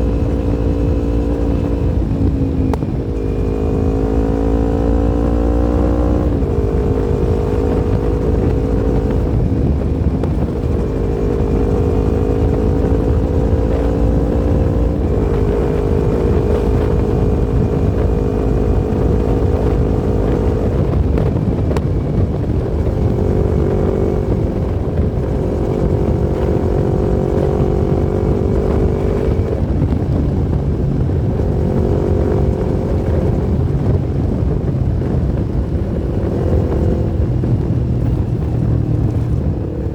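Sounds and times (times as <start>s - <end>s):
low rumble: 0.0s - 39.9s
motorcycle engine running: 0.0s - 39.9s.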